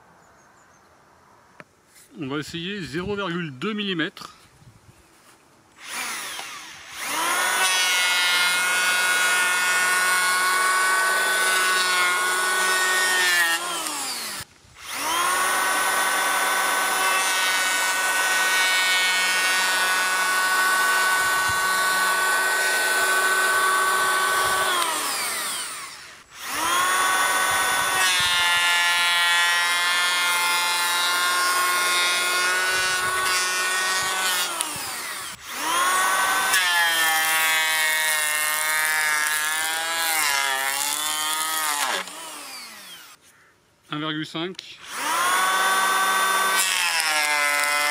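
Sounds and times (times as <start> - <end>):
electric planer whining: 5.8 - 43.2, 44.8 - 47.9.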